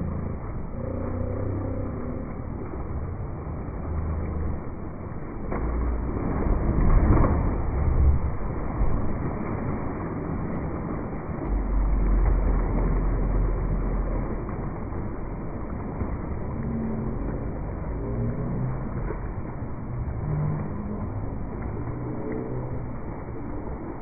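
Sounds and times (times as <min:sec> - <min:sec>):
water pouring into pool: 0:00.0 - 0:24.0.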